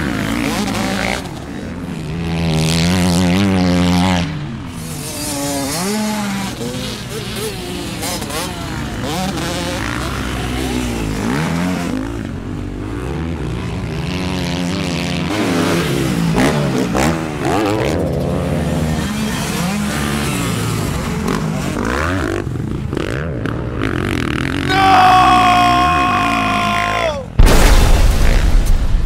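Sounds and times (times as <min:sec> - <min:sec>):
imitation dirt-bike engine revving: 0:00.0 - 0:26.9.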